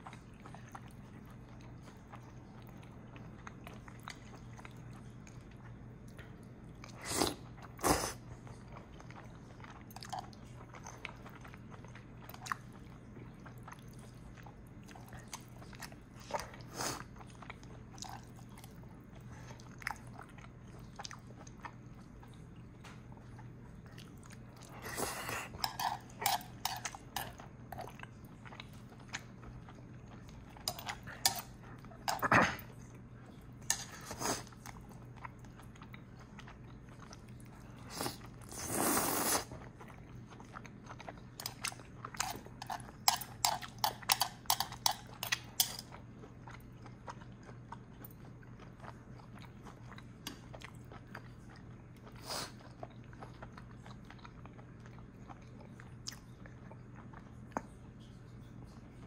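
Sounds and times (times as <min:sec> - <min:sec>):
wet chewing and mouth smacks: 0:08.4 - 0:59.0.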